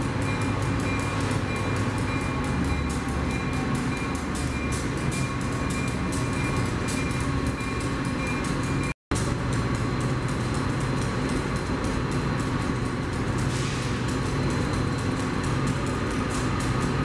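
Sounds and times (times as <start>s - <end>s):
diesel locomotive idling: 0.0s - 17.0s
rapid wheel clatter: 0.0s - 17.0s
train rumbling over steel structure: 0.0s - 17.0s.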